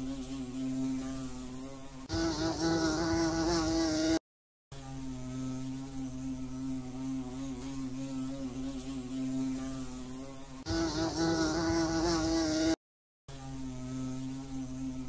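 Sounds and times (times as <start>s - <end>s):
insects buzzing: 0.0s - 4.2s, 4.8s - 15.0s.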